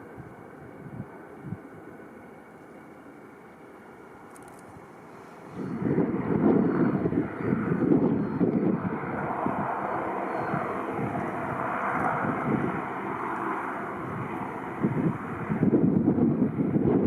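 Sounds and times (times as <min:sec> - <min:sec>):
wind buffeting microphone: 0:00.0 - 0:02.0, 0:04.3 - 0:17.0
airliner engines rushing: 0:00.0 - 0:17.0.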